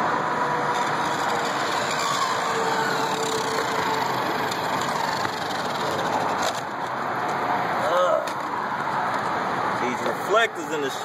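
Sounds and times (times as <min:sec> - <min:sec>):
vehicle noise rushing: 0:00.0 - 0:11.0.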